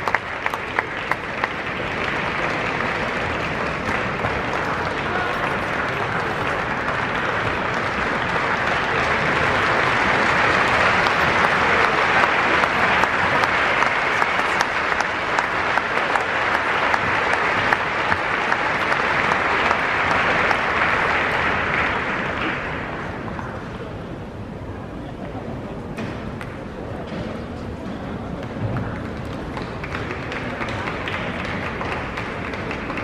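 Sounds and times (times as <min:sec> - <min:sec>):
audience applauding: 0:00.0 - 0:23.4, 0:28.8 - 0:33.0.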